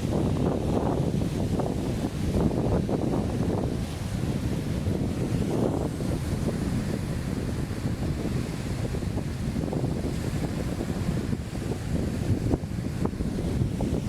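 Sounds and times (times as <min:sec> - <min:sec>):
ocean waves washing on shore: 0:00.0 - 0:14.0
wind rumbling on microphone: 0:00.0 - 0:14.0.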